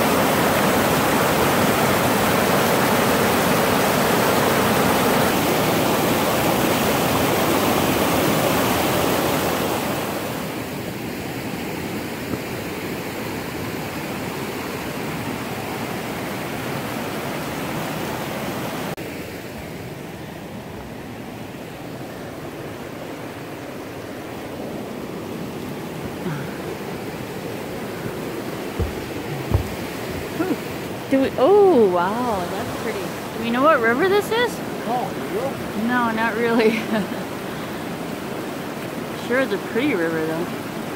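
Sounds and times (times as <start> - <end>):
river rapids rushing: 0.0 - 19.3, 20.0 - 40.9.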